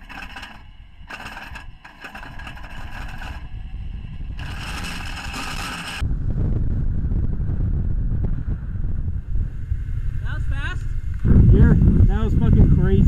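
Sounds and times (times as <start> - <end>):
road and wind noise: 2.4 - 13.0.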